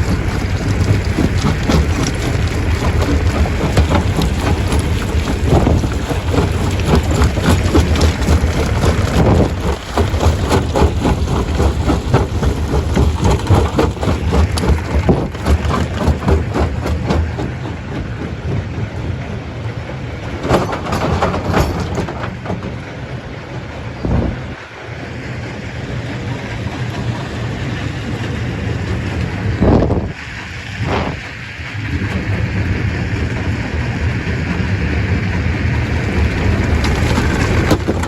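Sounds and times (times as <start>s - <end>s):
stone crusher rumbling: 0.0s - 24.6s, 25.2s - 38.0s.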